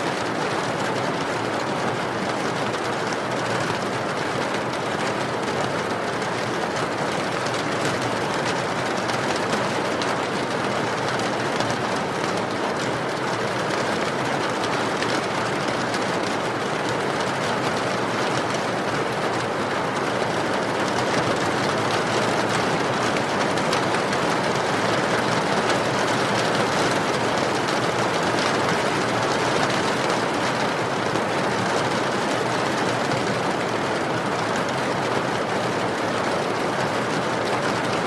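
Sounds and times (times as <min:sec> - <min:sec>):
rain falling: 0:00.1 - 0:38.0.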